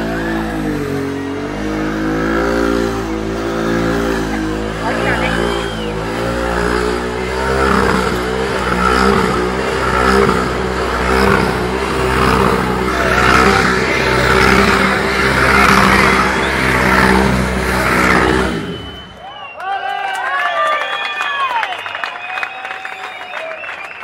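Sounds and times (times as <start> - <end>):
motorcycle engine at high revs: 0.0 - 19.2.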